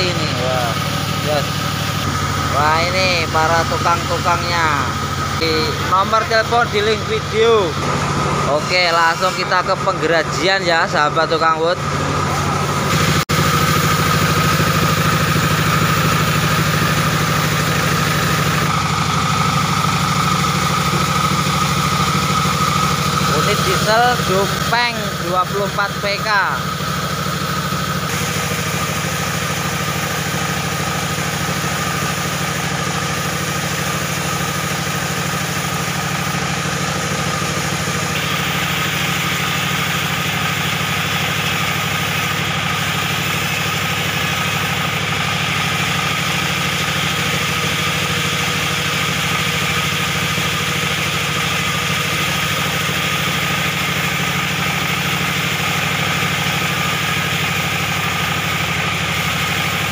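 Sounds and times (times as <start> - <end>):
diesel engine running: 0.0 - 59.9
saw blade cutting log: 0.0 - 59.9.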